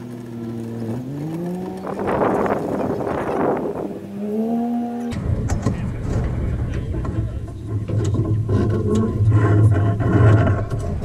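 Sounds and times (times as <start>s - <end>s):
vehicle engine accelerating: 0.0s - 11.0s.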